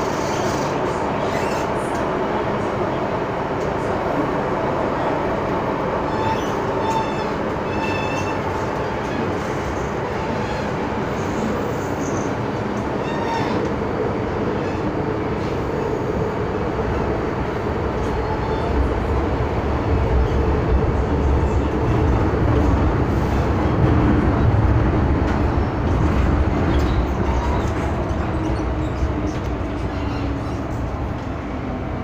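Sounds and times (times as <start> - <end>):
metro train rumbling in tunnel: 0.0 - 32.0.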